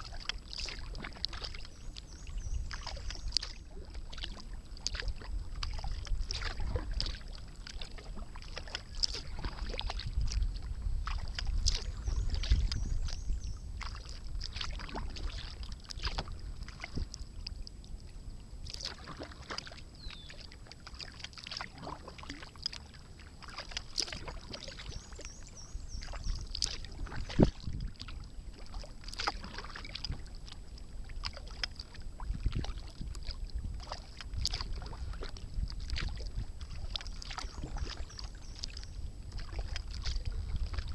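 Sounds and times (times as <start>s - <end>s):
paddle splashes and drips: 0.0s - 40.9s.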